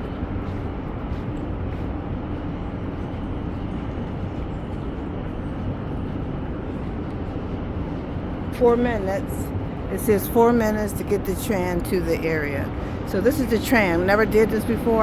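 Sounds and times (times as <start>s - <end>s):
steady background rumble: 0.0s - 15.0s.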